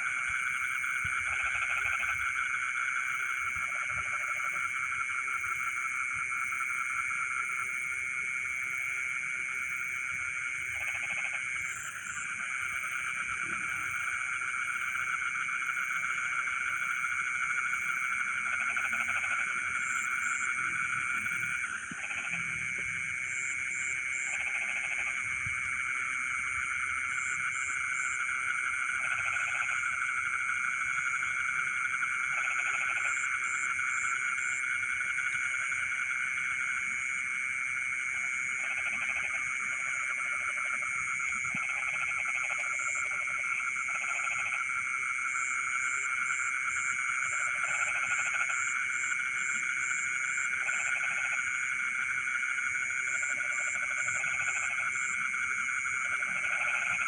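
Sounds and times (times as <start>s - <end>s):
frog croaking: 0.0s - 57.0s
frogs trilling: 0.0s - 57.0s.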